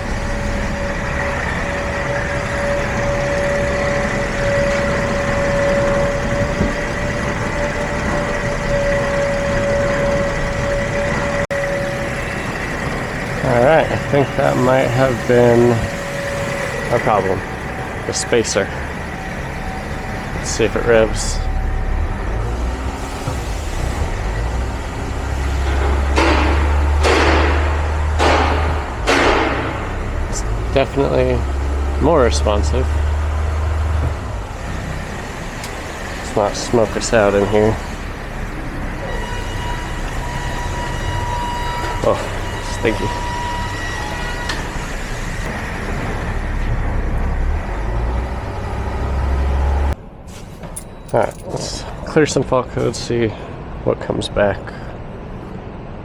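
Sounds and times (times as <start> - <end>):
steady whine: 0.0 - 48.0
diesel engine idling: 0.0 - 52.3.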